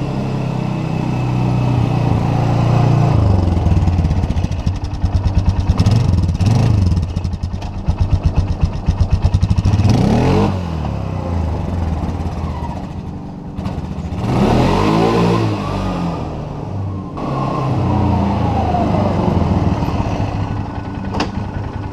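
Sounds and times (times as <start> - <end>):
atv engine running and revving: 0.0 - 21.9.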